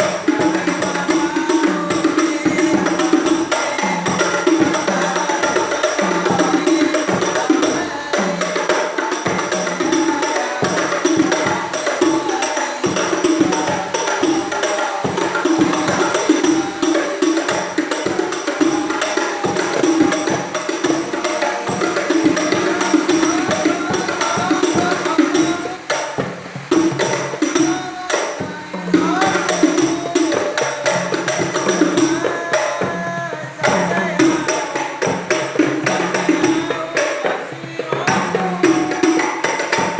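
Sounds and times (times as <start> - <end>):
frame drums with jingles: 0.0 - 39.9.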